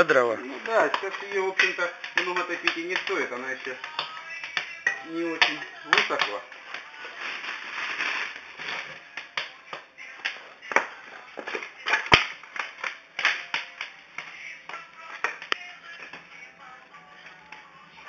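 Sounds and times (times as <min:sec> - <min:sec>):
firewood crackling: 0:00.0 - 0:16.6.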